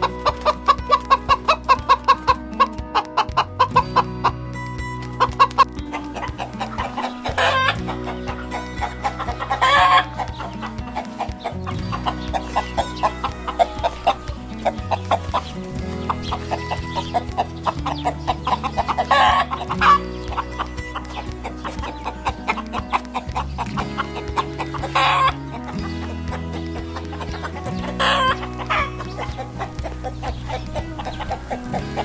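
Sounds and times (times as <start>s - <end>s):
background music with low notes: 0.0s - 32.0s
chickens clucking: 0.0s - 32.0s
chicken squawking: 0.2s - 4.4s, 5.2s - 32.0s.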